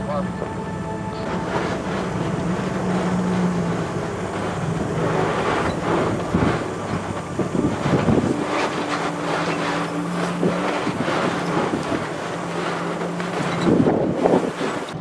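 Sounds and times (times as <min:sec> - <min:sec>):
road noise: 0:00.0 - 0:15.0
vehicle engine drone: 0:00.0 - 0:15.0
vehicle knocks and jolts: 0:01.1 - 0:15.0.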